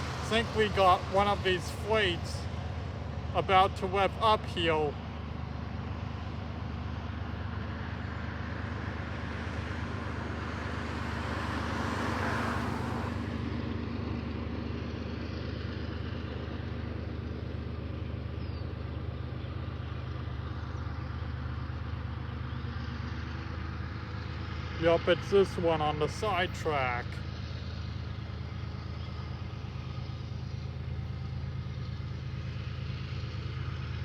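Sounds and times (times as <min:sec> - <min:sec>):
diesel locomotives idling: 0:00.0 - 0:34.0.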